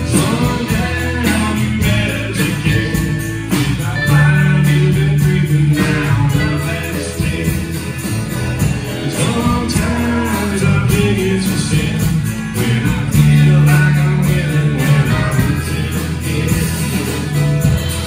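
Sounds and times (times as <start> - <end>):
bass guitar: 0.0 - 18.0
drum kit beat: 0.0 - 18.0
electric and acoustic guitars: 0.0 - 18.0.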